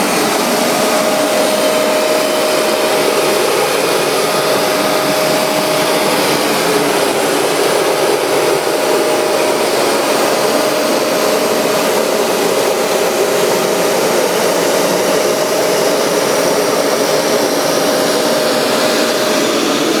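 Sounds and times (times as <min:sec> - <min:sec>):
carpet cleaner whining: 0:00.0 - 0:20.0.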